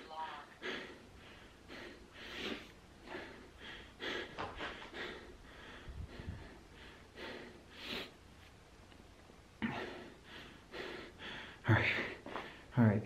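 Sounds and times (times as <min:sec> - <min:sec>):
man breathing heavily: 0:00.5 - 0:08.3, 0:09.6 - 0:12.8.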